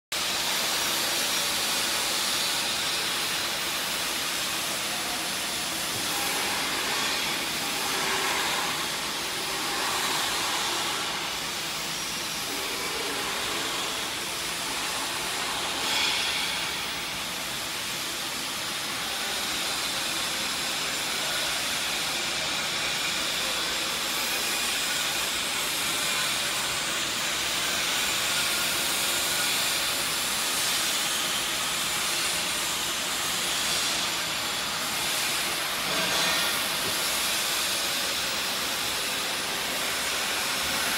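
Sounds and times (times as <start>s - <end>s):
factory workshop hissing noise: 0.2s - 40.9s.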